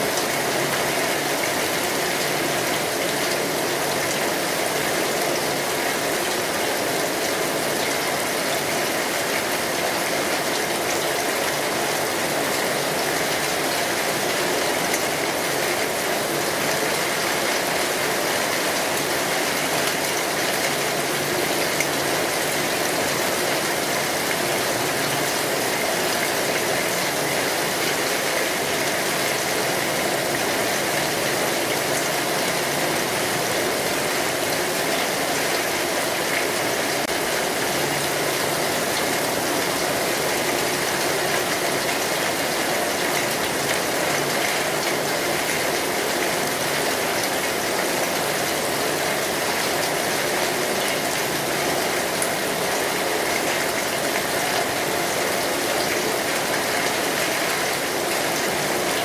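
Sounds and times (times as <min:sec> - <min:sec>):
rain falling on a street: 0:00.0 - 0:59.0.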